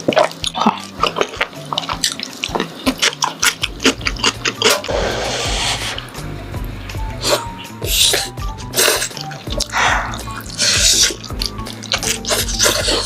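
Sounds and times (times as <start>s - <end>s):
wet chewing and smacking: 0.0s - 4.9s, 6.9s - 13.0s.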